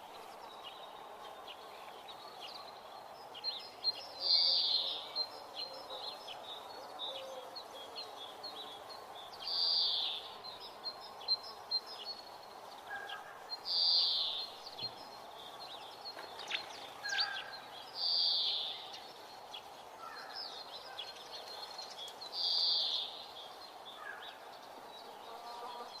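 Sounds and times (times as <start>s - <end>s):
steady background hiss: 0.0s - 26.0s
faint bird chirps: 1.4s - 26.0s.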